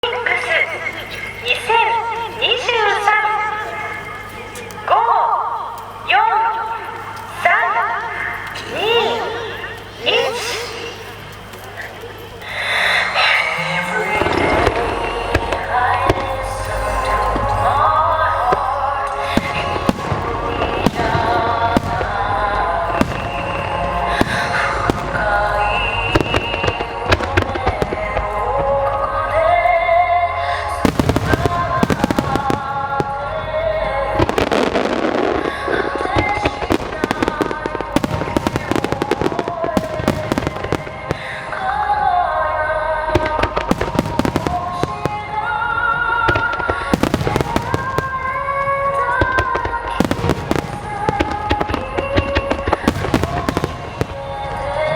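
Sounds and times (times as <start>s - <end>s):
music with sung melody: 0.0s - 54.9s
fireworks bangs and crackles: 6.9s - 29.7s, 30.5s - 54.9s.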